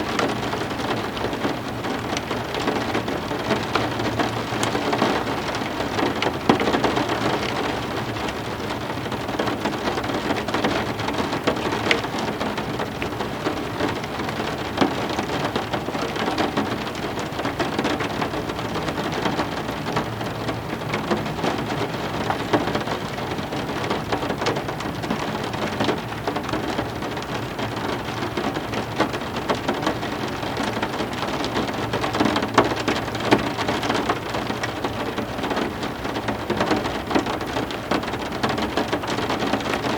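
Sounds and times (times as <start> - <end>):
heavy rain falling: 0.0 - 39.9
raindrops ticking on hard surfaces: 0.0 - 39.9.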